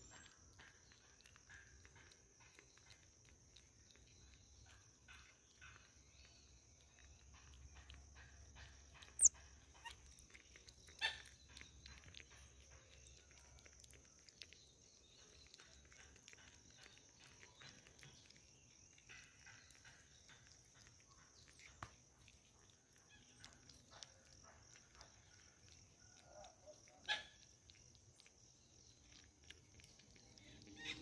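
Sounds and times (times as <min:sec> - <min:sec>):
marmoset chirp: 0:00.0 - 0:31.0.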